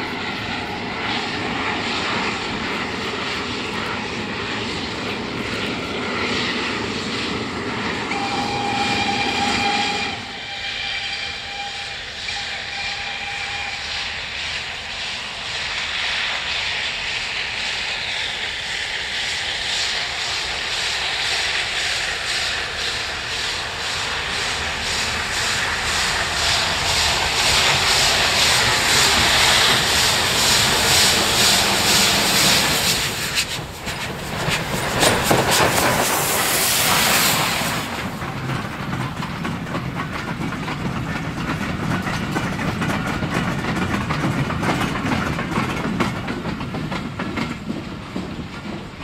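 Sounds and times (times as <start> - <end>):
steam hissing: 0.0 - 49.0
steam locomotive exhaust beating: 0.0 - 49.0
train wheels clacking on rails: 0.0 - 49.0.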